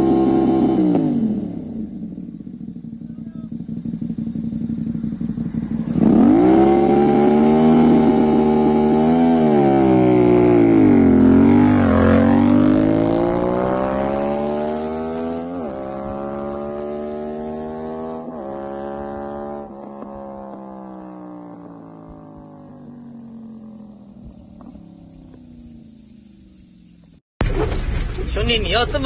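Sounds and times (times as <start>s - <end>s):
motorcycle engine accelerating: 0.0s - 27.2s.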